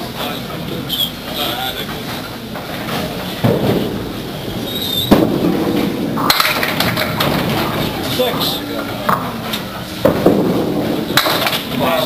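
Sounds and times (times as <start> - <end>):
bowling balls rolling on wooden lanes: 1.9 - 12.0.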